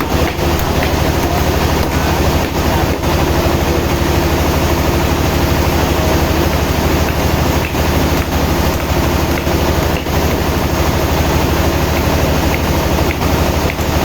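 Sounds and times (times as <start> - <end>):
engine running with low throb: 0.0 - 14.0.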